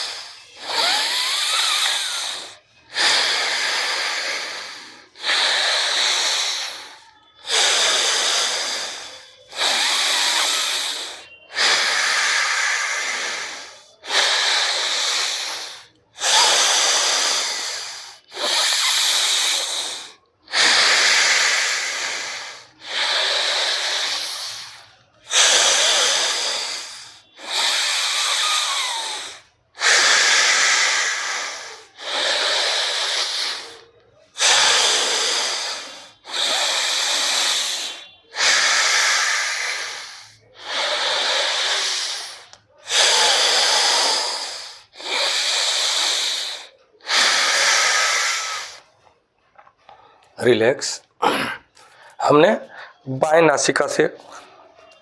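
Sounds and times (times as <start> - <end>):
deep breathing through nostril: 0.0 - 53.1.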